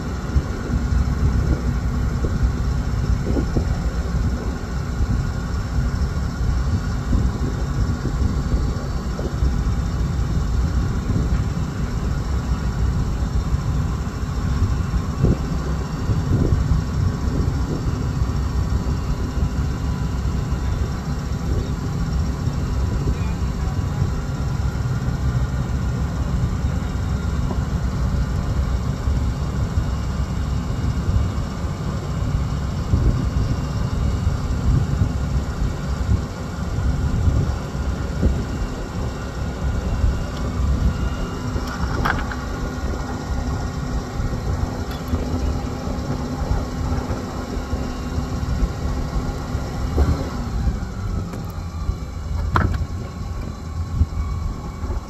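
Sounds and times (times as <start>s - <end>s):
engine low rumble: 0.0s - 55.0s.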